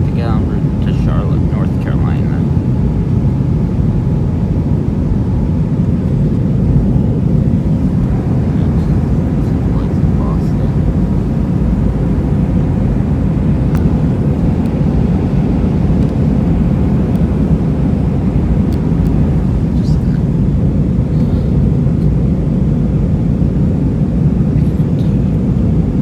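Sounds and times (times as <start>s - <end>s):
airliner cabin engine rumble: 0.0s - 26.0s
faint steady hum: 0.0s - 26.0s.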